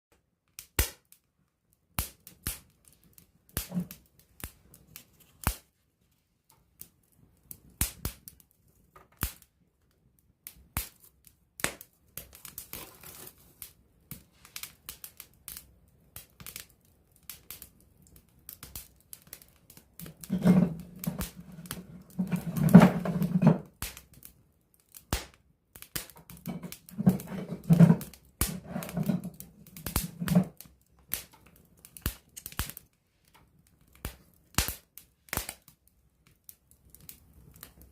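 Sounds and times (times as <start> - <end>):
campfire crackling: 6.6 - 37.9.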